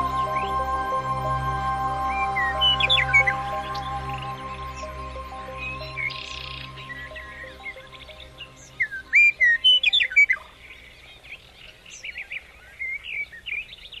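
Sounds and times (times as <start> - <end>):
soft background music: 0.0 - 11.4
birds chirping: 0.0 - 14.0.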